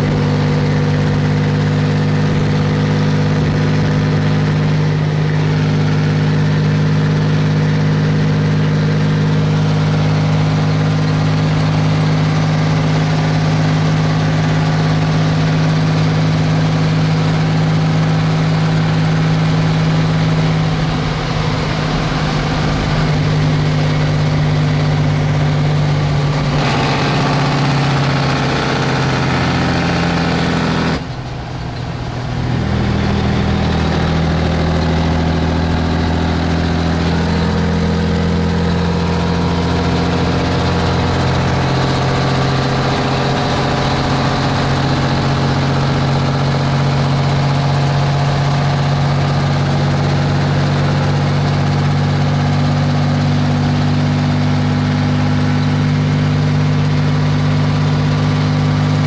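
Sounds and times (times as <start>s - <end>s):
diesel truck engine pulling: 0.0s - 59.0s.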